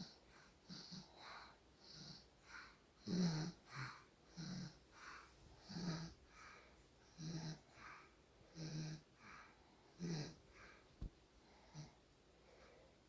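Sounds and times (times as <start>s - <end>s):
person snoring softly: 0.0s - 10.8s, 11.4s - 12.0s.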